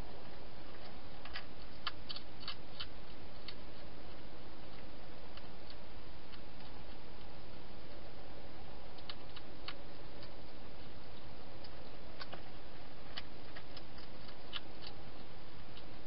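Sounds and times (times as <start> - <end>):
hedgehog chewing crunchy food: 0.7 - 16.0.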